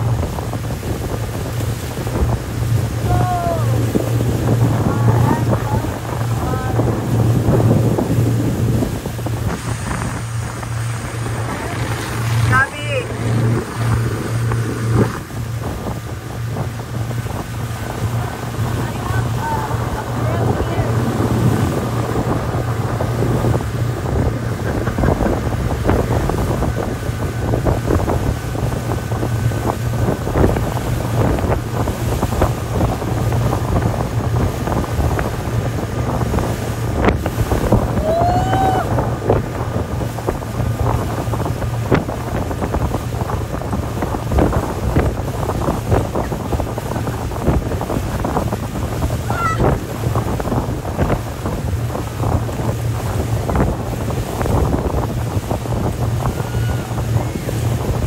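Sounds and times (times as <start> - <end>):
boat wake rushing: 0.0 - 58.0
outboard motor running: 0.0 - 58.0
wind buffeting microphone: 0.0 - 58.0.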